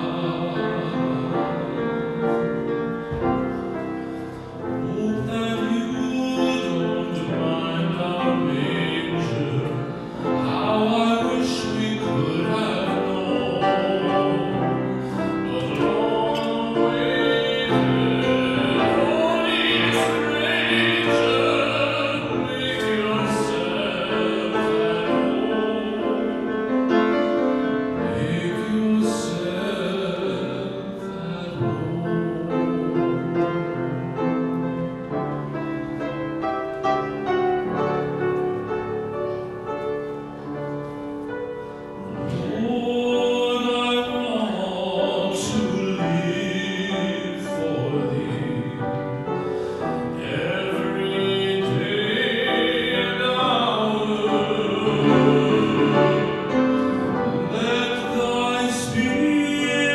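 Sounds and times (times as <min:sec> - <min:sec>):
tenor voice singing: 0:00.0 - 0:03.2, 0:04.8 - 0:33.8, 0:42.0 - 0:59.9
piano accompaniment: 0:00.0 - 0:59.9.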